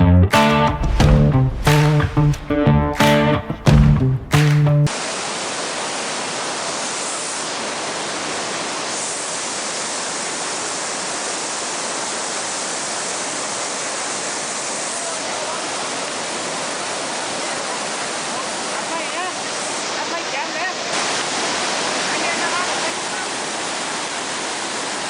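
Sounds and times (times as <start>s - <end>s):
water rushing over waterfall: 4.9s - 25.0s.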